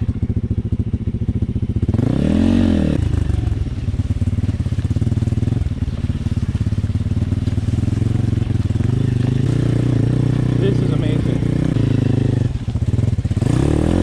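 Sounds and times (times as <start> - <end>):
motorcycle engine revving and running: 0.0 - 14.0.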